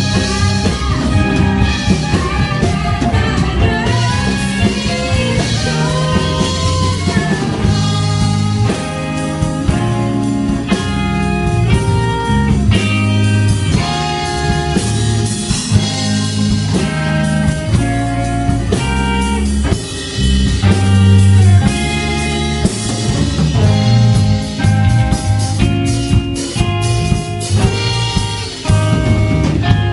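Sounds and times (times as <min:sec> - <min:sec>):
drum kit: 0:00.0 - 0:29.9
electric guitars: 0:00.0 - 0:29.9.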